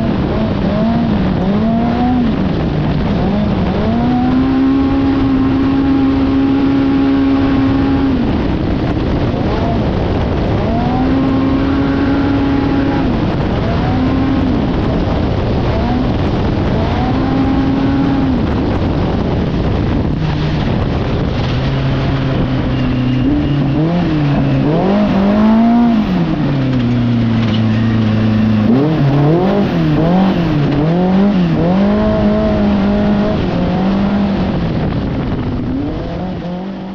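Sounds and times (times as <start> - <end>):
engine revving: 0.0 - 36.9
wind and terrain noise: 0.0 - 36.9.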